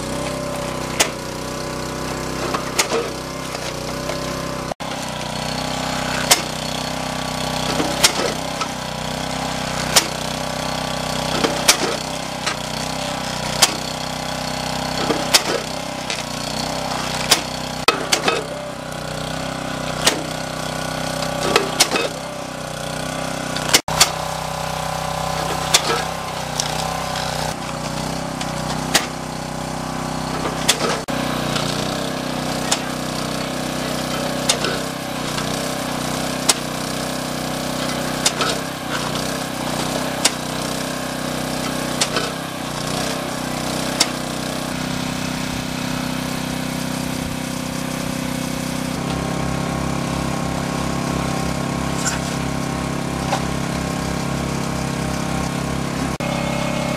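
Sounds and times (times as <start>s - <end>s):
saw-and-splitter engine running: 0.0s - 56.9s.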